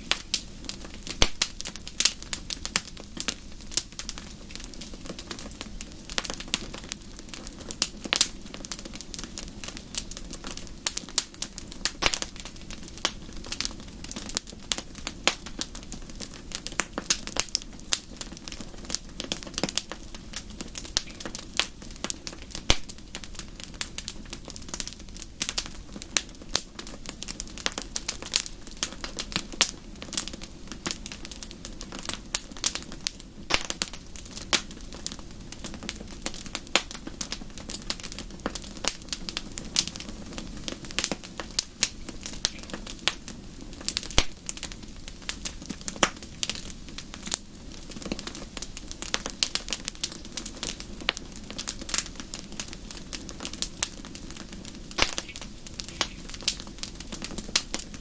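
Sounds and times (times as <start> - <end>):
fire pops and snaps: 0.0 - 58.0
low rumble of burning: 0.0 - 58.0.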